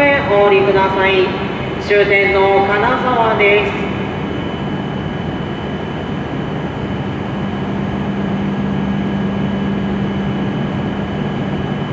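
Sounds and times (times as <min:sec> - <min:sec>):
train equipment hum and whine: 0:00.0 - 0:11.9.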